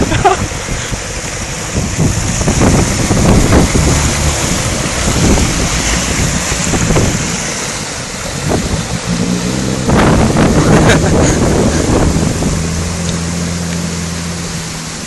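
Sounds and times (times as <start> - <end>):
diesel engine: 0.0 - 15.0
water surging and splashing: 0.0 - 15.0
wind buffeting microphone: 0.0 - 15.0.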